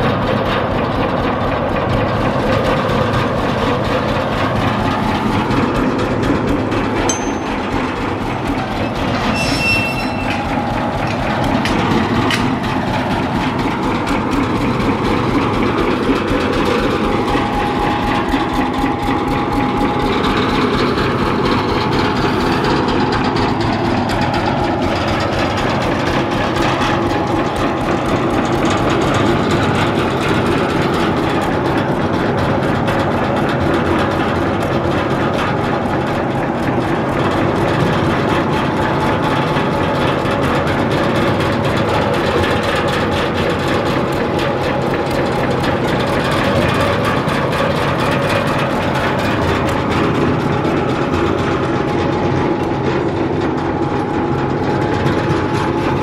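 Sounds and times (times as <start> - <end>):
gas engine running: 0.0 - 9.4, 10.0 - 56.0.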